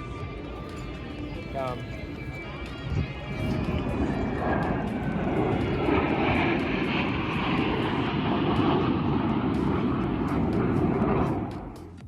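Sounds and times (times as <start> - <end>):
jet aircraft flying over: 0.0 - 12.0.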